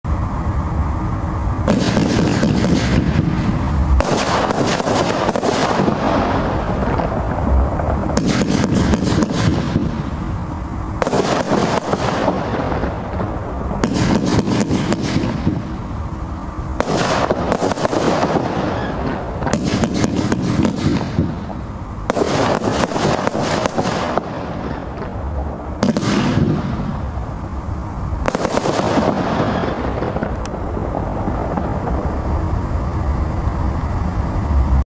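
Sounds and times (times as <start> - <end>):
fireworks rumble: 0.0 - 34.9
fireworks cracking: 0.1 - 34.8.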